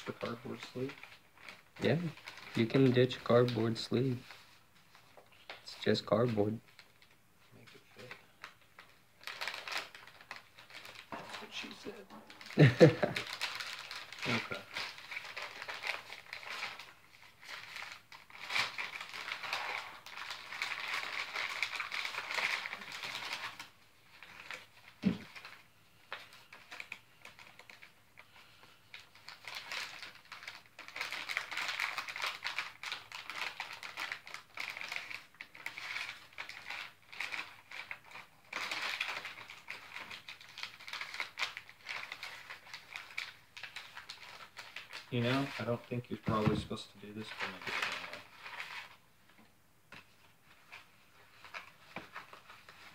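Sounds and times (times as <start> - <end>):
packaging crinkling: 0.0 - 46.4, 47.1 - 49.0, 50.0 - 52.9.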